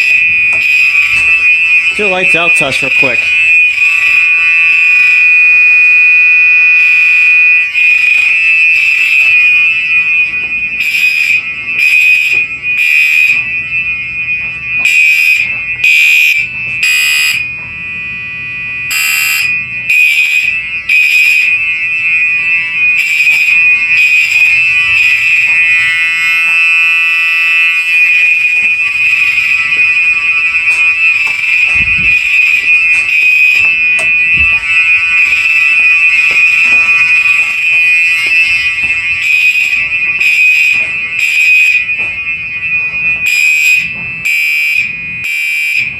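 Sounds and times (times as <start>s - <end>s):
pulsing alarm horn: 0.0s - 45.9s
steady high-pitched alarm tone: 0.0s - 45.9s.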